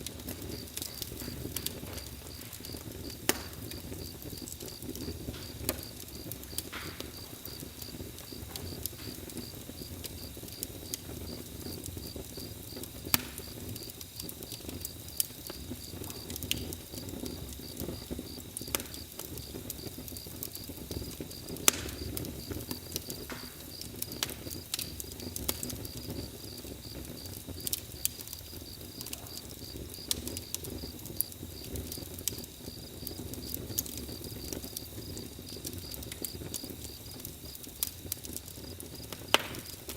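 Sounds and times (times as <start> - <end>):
campfire crackling: 0.0 - 39.9
crickets chirping: 0.3 - 39.9.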